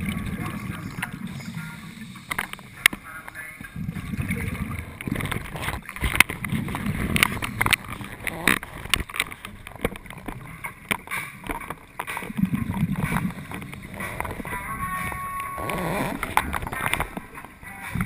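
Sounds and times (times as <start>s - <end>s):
underwater bubbling: 0.0s - 18.0s
clicks and crackles: 2.2s - 3.5s, 4.2s - 18.0s.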